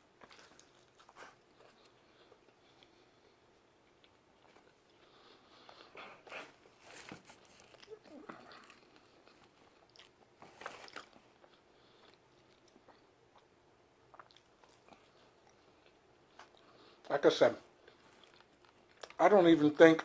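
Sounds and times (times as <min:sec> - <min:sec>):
person chewing pizza: 0:00.0 - 0:17.1, 0:17.8 - 0:19.2.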